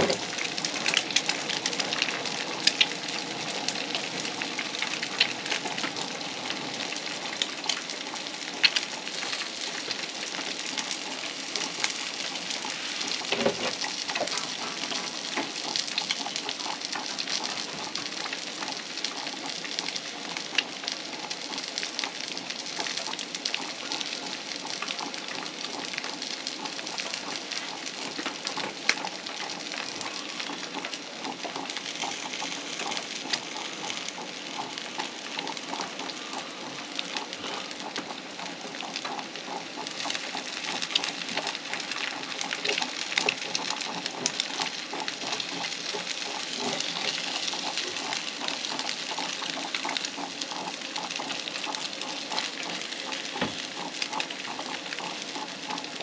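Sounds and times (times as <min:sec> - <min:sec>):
eggs and potatoes sizzling in oil: 0:00.0 - 0:56.0.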